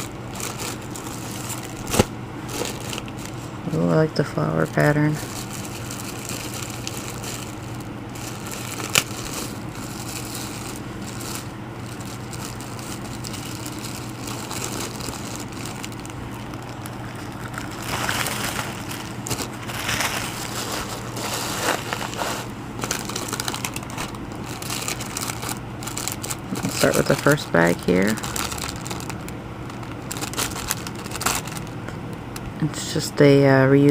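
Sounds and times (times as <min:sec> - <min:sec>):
plastic packaging crinkling: 0:00.0 - 0:32.5
steady low hum: 0:00.0 - 0:33.9.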